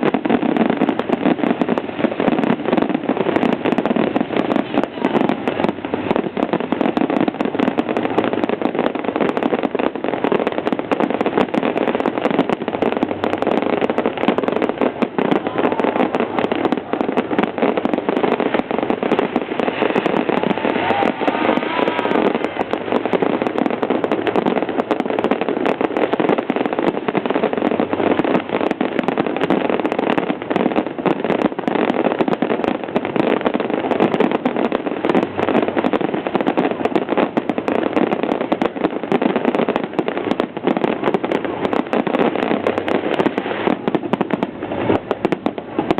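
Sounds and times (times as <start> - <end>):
fireworks crackling and popping: 0.0 - 45.9.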